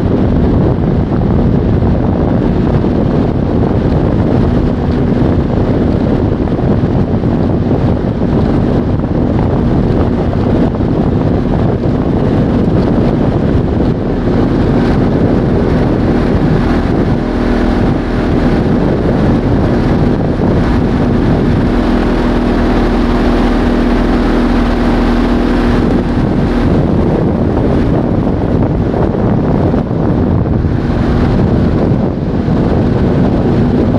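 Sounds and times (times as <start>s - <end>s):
speedboat motor running: 0.0s - 33.9s
wind over microphone: 0.0s - 33.9s.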